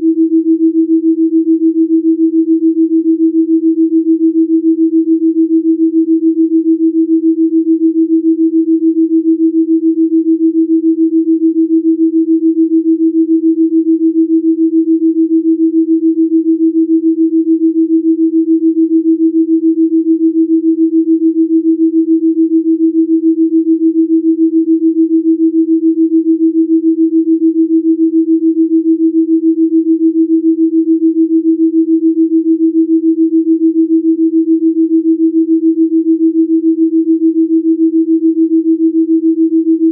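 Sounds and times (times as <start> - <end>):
pulsing pure sine tone: 0.0 - 39.9.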